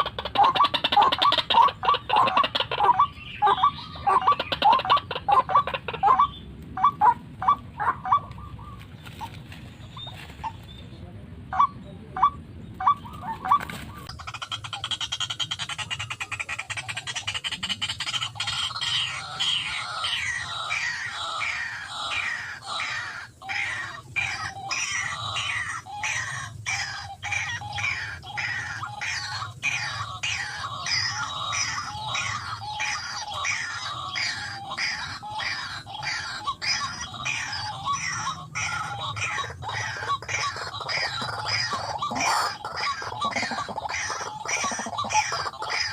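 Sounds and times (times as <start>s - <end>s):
waterhen calling repeated notes: 0.0s - 8.8s, 11.5s - 45.9s.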